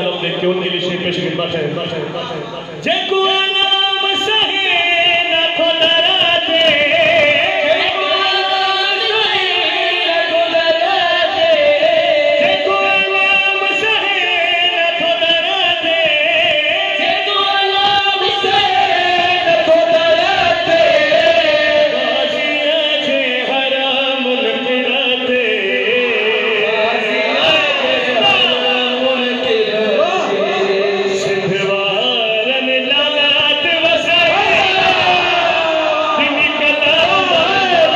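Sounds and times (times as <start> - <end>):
men singing into microphones: 0.0 - 37.9.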